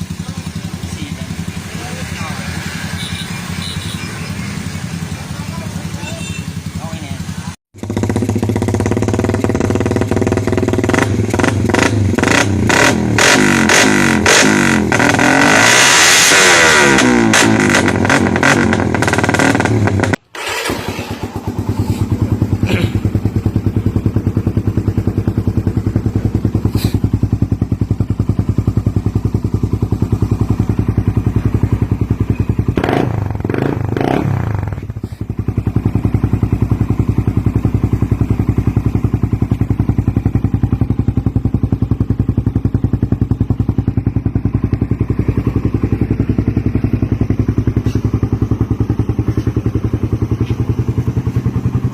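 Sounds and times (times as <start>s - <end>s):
motorcycle engine idling: 0.0s - 15.4s, 18.0s - 51.9s.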